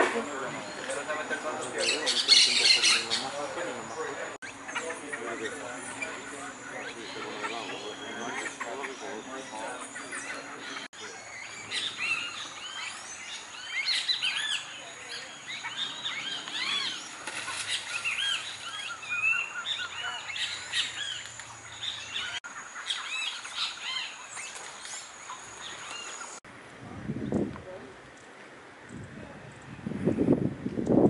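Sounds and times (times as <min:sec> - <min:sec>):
small birds chirping: 0:00.2 - 0:26.4.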